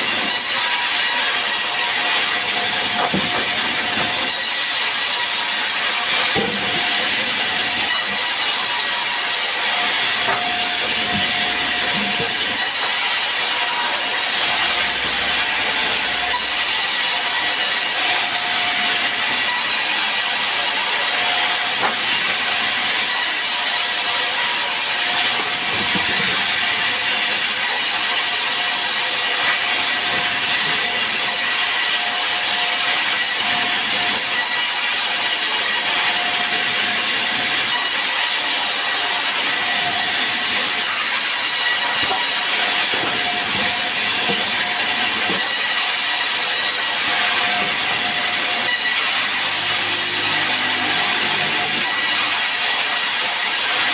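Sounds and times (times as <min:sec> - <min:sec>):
sawmill saw running: 0:00.0 - 0:53.9.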